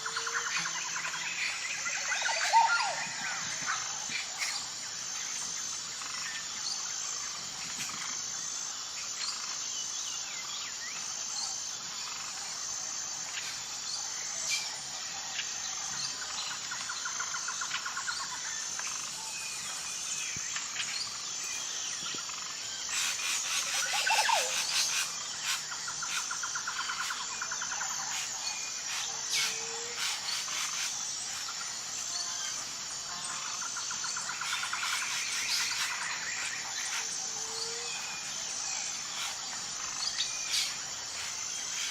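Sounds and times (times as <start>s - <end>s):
steady high pulsing chirp: 0.0s - 41.9s
wild birds chirping and calling: 0.0s - 41.9s.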